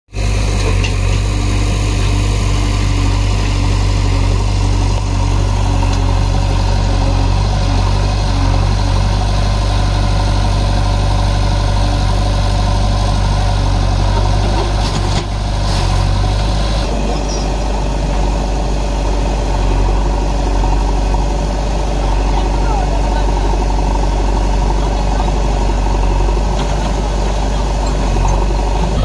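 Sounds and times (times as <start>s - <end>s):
diesel engines idling: 0.1s - 29.0s.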